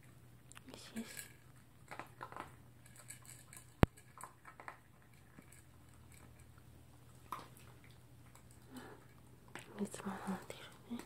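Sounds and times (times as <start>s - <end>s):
dog eating from a bowl: 0.0s - 11.0s.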